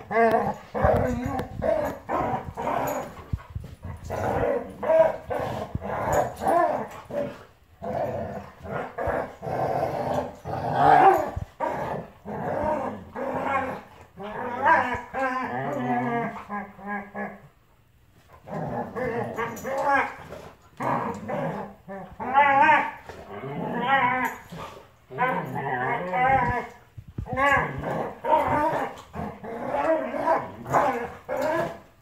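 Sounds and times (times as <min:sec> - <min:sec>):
dogs growling while play-fighting: 0:00.0 - 0:17.6, 0:18.2 - 0:32.0
high wavering dog growl: 0:00.0 - 0:17.6, 0:18.3 - 0:32.0.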